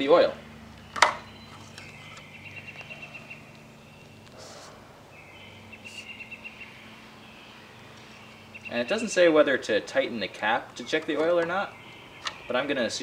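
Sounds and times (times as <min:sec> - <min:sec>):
songbird trilling: 0:00.4 - 0:13.0.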